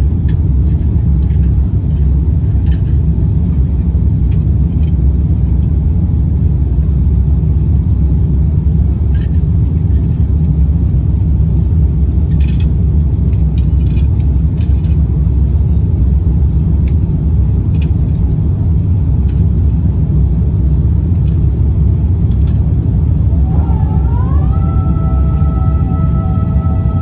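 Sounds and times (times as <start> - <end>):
airplane cabin low rumble: 0.0 - 27.0.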